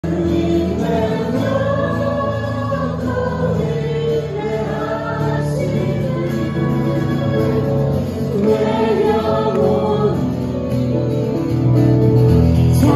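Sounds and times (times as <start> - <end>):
group singing worship song: 0.0 - 11.5
instrumental accompaniment: 0.0 - 12.9.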